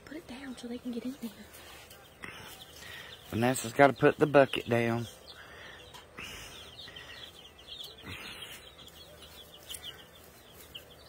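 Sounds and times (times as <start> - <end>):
chicks peeping: 0.1 - 11.0.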